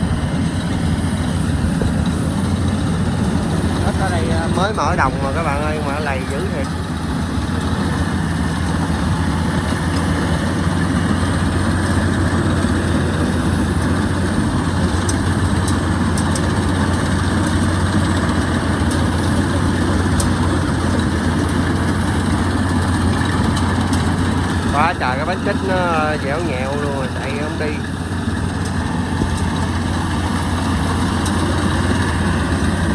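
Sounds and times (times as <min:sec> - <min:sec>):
combine harvester diesel engine: 0:00.0 - 0:32.9.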